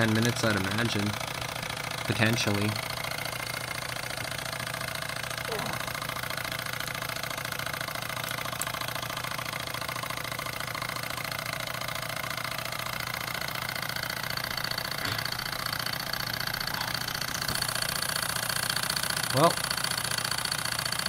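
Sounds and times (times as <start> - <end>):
toy steam engine rattling: 0.0 - 21.0.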